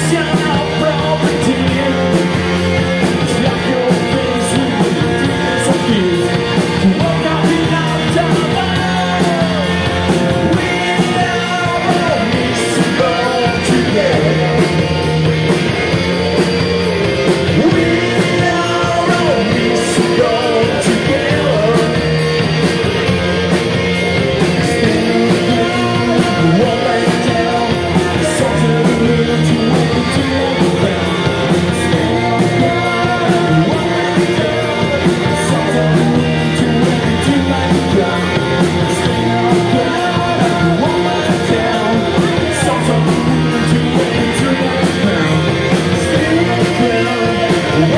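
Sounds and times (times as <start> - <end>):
man singing lead vocal: 0.0 - 23.5, 24.3 - 47.9
bass guitar: 0.0 - 47.9
drum kit: 0.0 - 47.9
electric guitars: 0.0 - 47.9.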